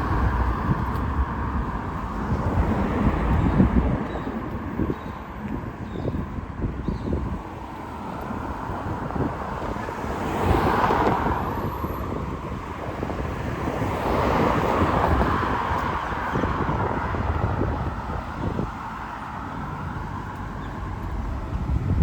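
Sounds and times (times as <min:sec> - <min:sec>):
cars driving past: 0:00.0 - 0:06.2, 0:07.1 - 0:22.0.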